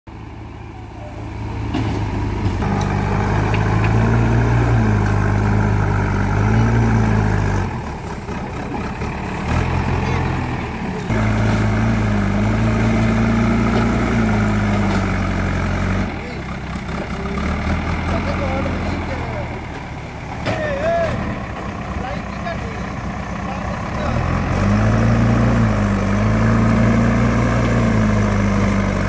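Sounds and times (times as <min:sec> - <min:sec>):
backhoe diesel engine revving: 0:00.1 - 0:29.0.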